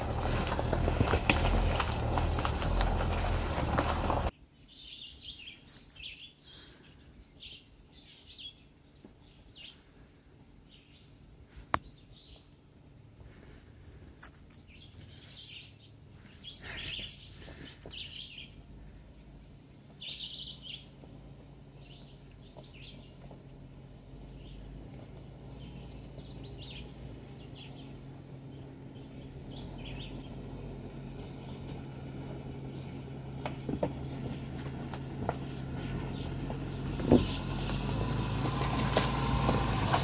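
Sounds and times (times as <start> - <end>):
low engine hum: 0.0 - 40.0
songbirds chirping: 0.0 - 40.0.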